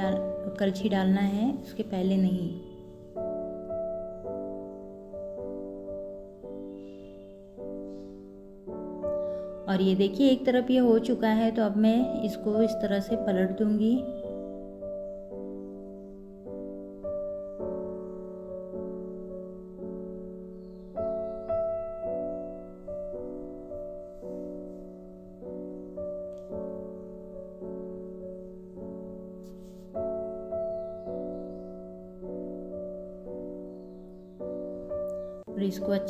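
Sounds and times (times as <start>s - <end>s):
soft piano music: 0.0s - 36.0s.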